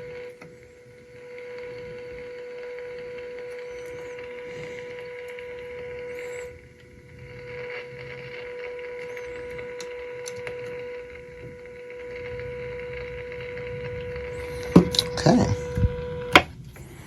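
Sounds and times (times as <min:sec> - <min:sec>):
radio test tone with hiss: 0:00.0 - 0:17.0.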